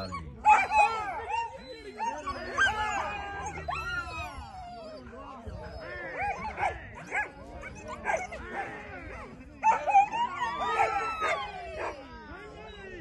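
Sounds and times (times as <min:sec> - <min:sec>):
dogs yelping and whining: 0:00.0 - 0:13.0.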